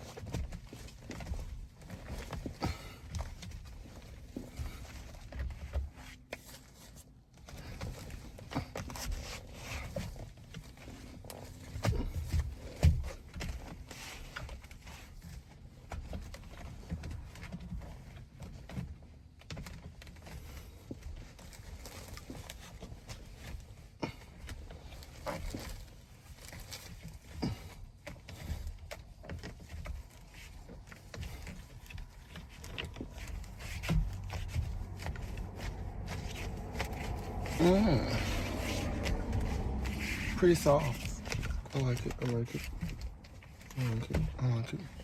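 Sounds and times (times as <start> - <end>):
hands rustling and rubbing cover: 0.0 - 45.0.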